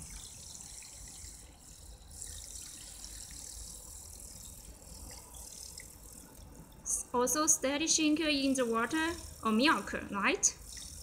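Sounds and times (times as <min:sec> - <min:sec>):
liquid churning: 0:00.0 - 0:06.9, 0:08.2 - 0:11.0
milk frother motor whirring: 0:00.0 - 0:11.0.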